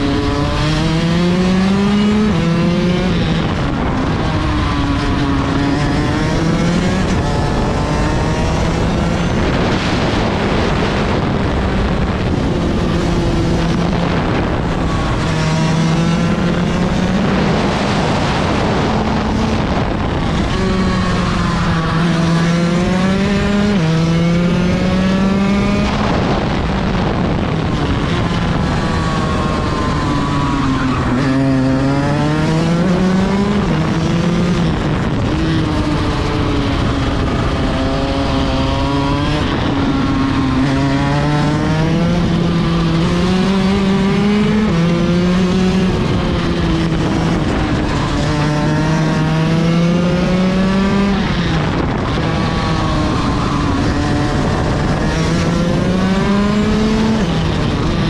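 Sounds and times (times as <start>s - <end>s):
kart engine revving: 0.0s - 58.0s
wind rushing: 0.0s - 58.0s.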